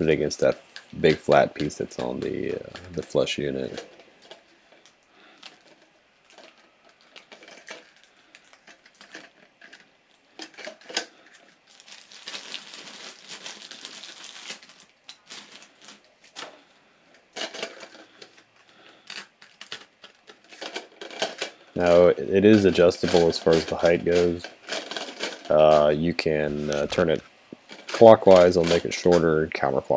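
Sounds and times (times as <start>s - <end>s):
plastic parts clicking and rubbing: 0.0s - 29.9s.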